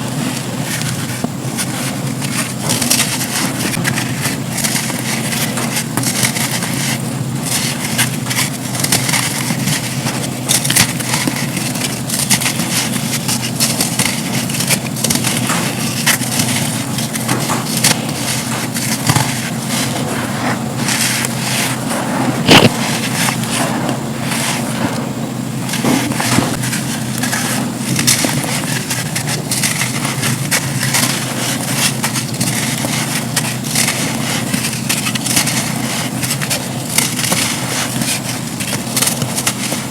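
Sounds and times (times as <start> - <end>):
sand slabs crumbling and crackling: 0.0 - 39.9.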